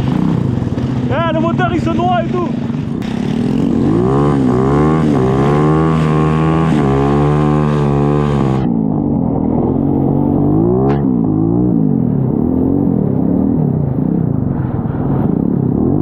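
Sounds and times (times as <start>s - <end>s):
kart engine revving: 0.0s - 14.0s.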